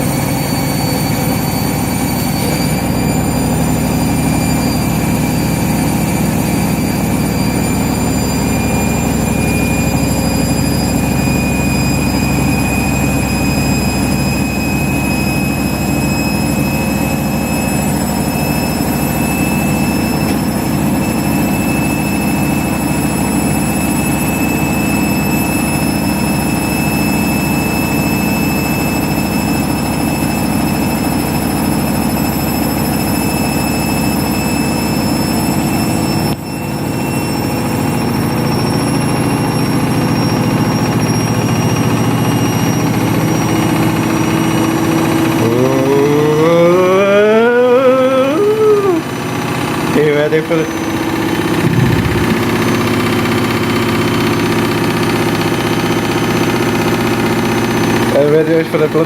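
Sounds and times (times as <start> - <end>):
motor whine rising in pitch: 0.0 - 59.0.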